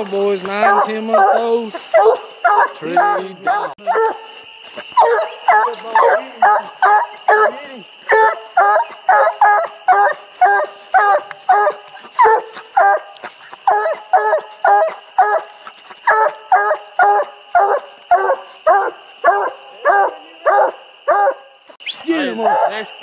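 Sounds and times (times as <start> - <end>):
hound barking: 0.5 - 21.6, 22.2 - 22.9.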